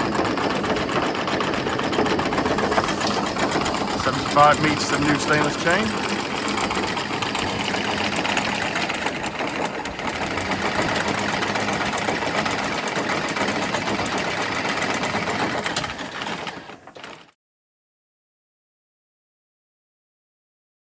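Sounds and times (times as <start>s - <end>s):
anchor chain rattling through windlass: 0.0s - 17.4s.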